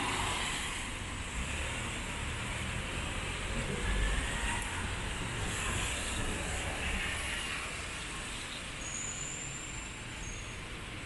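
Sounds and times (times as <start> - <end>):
passing traffic: 0.0 - 11.0.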